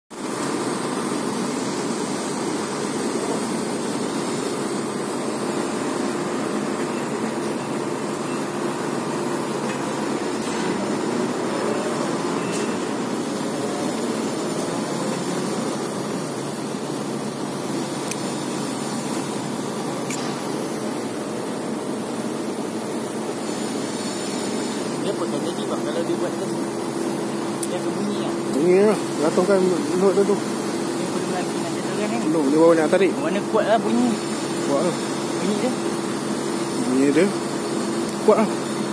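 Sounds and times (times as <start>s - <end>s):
heavy machinery engine running: 0.2s - 38.9s.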